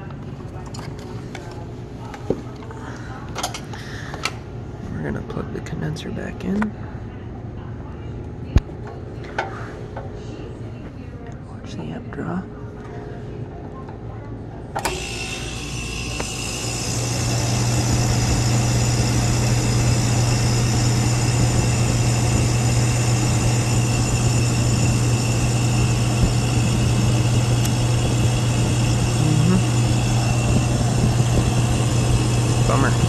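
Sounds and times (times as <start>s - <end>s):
compressor humming: 0.0s - 33.0s.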